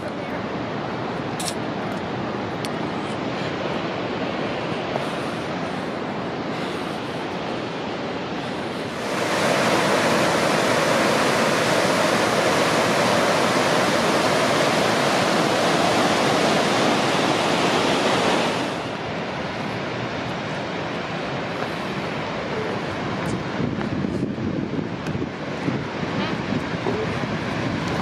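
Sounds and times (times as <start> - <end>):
water rushing over rocks: 0.0 - 23.6.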